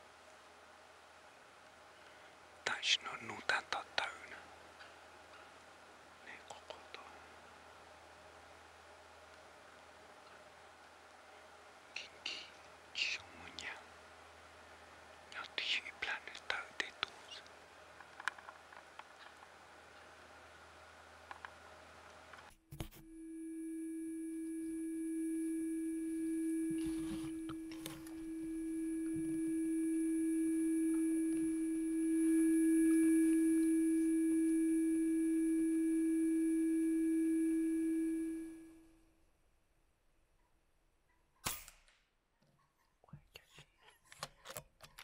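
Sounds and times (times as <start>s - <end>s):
steady hum: 0.0s - 39.3s.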